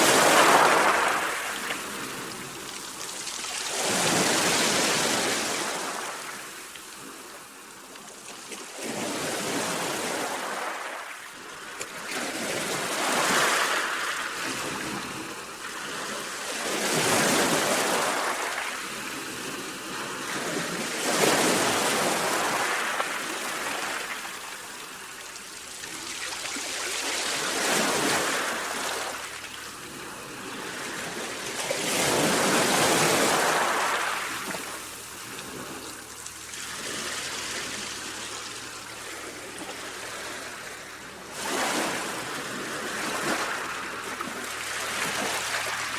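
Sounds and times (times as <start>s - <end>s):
sea waves washing in: 0.0s - 7.6s, 12.0s - 45.9s.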